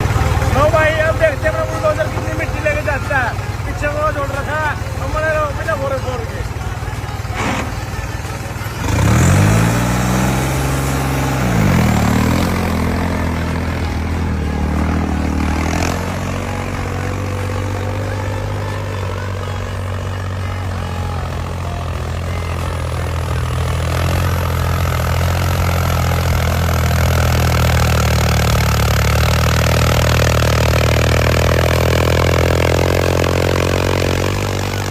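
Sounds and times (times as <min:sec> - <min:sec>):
diesel engine revving: 0:00.0 - 0:34.9.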